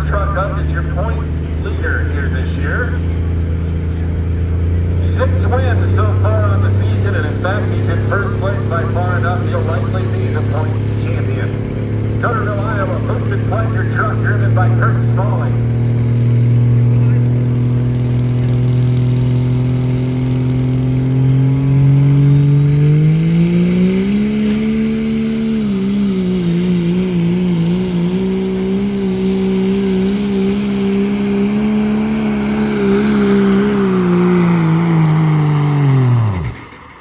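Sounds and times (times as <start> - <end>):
diesel engine at full throttle: 0.0 - 37.0.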